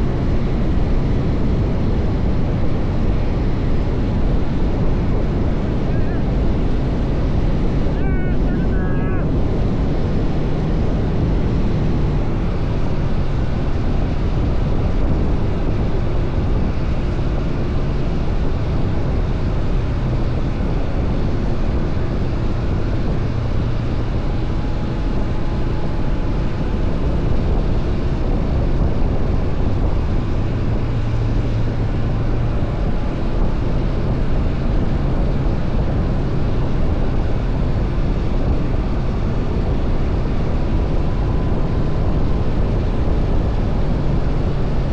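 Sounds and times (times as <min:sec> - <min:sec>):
motorcycle engine running: 0:00.0 - 0:44.9
wind rush on microphone: 0:00.0 - 0:44.9.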